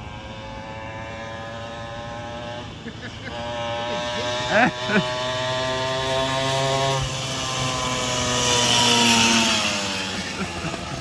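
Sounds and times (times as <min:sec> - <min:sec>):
small motorbike engine running: 0:00.0 - 0:11.0.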